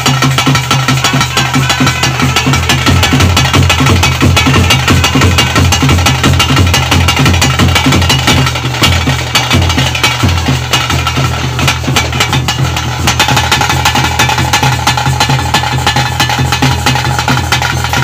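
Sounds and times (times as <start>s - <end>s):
fast dense drumming: 0.0s - 18.0s.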